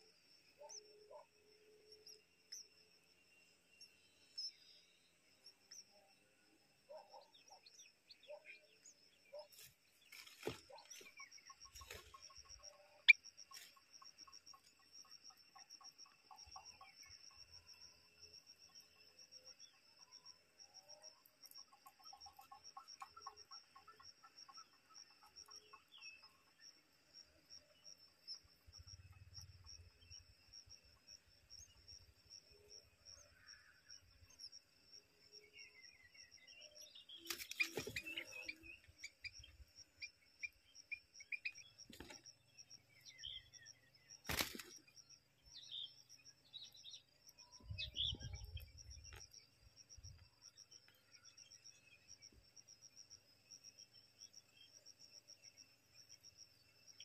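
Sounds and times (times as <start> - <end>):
soft bird chirps: 0.0 - 34.4, 35.2 - 53.2
crickets trilling: 7.1 - 57.0.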